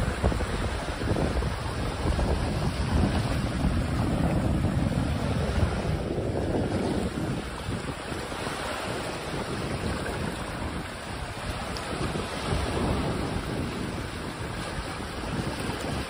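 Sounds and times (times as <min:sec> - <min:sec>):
waves splashing on rocks: 0:00.0 - 0:16.0.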